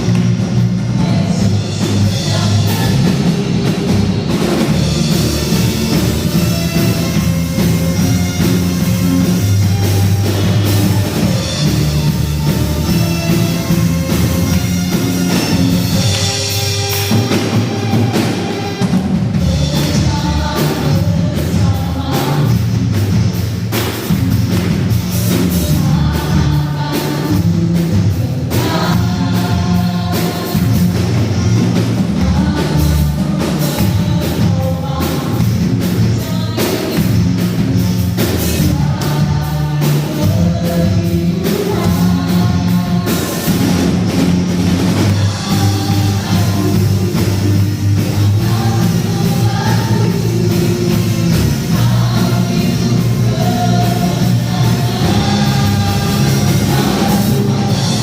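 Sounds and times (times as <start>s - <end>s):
bass guitar: 0.0s - 58.0s
drum kit: 0.0s - 58.0s
voices singing: 0.0s - 58.0s
worship band playing: 0.0s - 58.0s.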